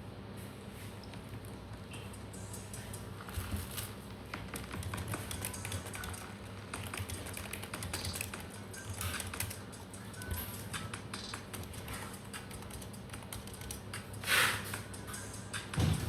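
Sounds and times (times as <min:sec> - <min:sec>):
rapid light taps and clicks: 0:01.0 - 0:15.8.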